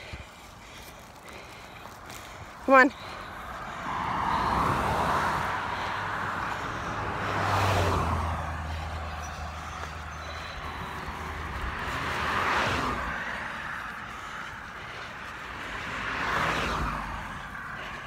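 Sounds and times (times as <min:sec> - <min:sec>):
cars passing: 0:00.0 - 0:18.0
low engine hum: 0:00.0 - 0:18.0.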